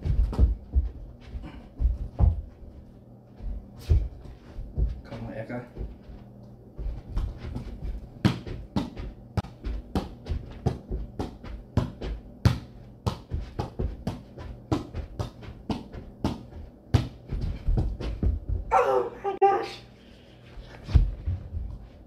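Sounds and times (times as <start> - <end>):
ball touches with bare feet: 0.0 - 2.8, 3.4 - 18.7.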